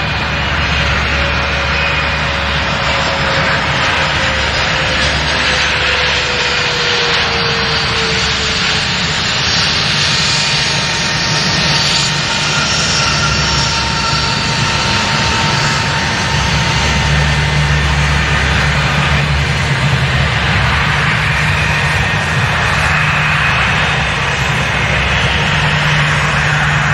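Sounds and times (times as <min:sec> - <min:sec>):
engines rumbling: 0:00.0 - 0:26.9
jet engine noise: 0:00.0 - 0:26.9
jet engine whine falling: 0:00.0 - 0:26.9.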